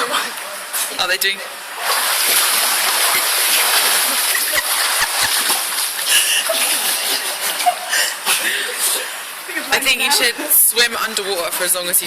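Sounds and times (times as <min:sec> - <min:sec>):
swimmers splashing water: 0:00.0 - 0:12.0.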